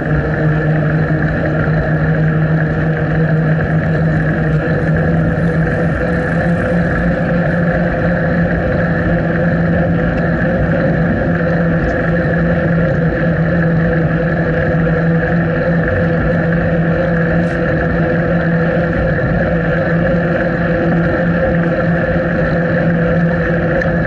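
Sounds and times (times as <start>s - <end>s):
constant low hum: 0.0s - 24.0s
wind and bicycle riding noise: 0.0s - 24.0s.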